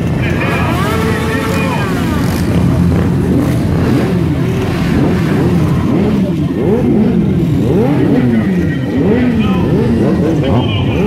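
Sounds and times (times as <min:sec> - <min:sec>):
motorcycles idling and revving: 0:00.0 - 0:11.0.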